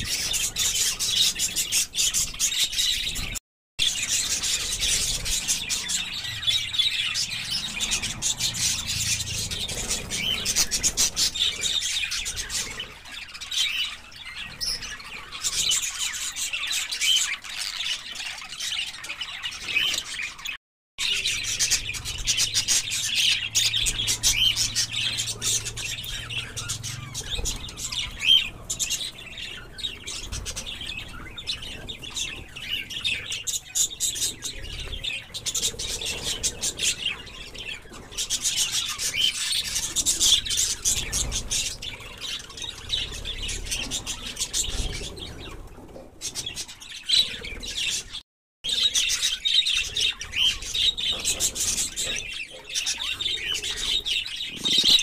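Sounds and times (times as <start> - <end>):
budgerigars chattering: 0.0 - 45.6, 46.3 - 55.0.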